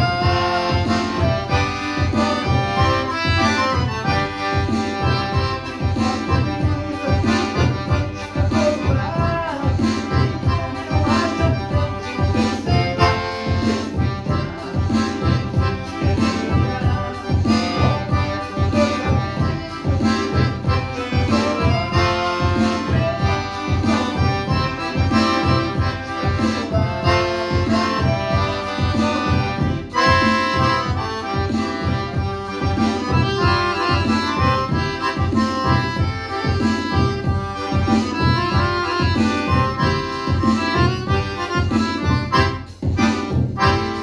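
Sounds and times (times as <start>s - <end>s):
piano accordion playing: 0.0s - 44.0s.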